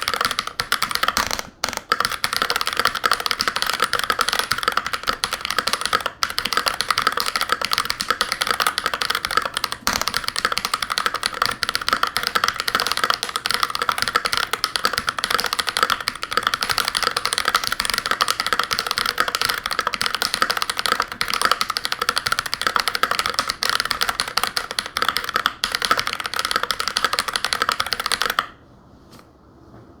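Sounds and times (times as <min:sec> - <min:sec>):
fast mechanical keyboard typing: 0:00.0 - 0:28.6.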